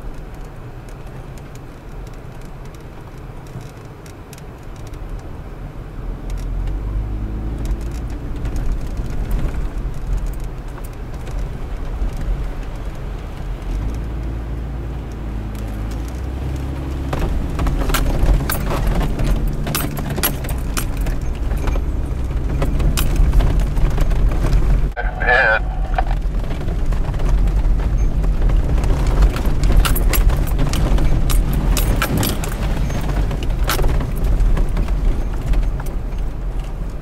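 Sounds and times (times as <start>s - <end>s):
vehicle engine low drone: 4.0s - 37.0s
rattles and knocks over rocks: 6.3s - 37.0s.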